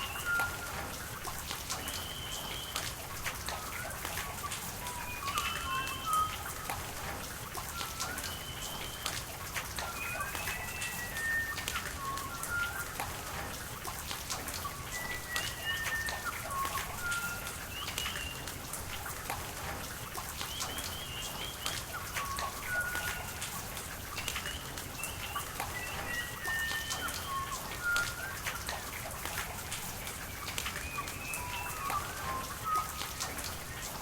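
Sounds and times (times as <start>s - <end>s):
bird singing whistled phrases: 0.0s - 0.7s, 1.8s - 6.8s, 7.7s - 9.2s, 9.8s - 13.0s, 14.6s - 18.6s, 20.4s - 34.0s
rain falling and dripping: 0.0s - 34.0s
running water: 0.0s - 34.0s.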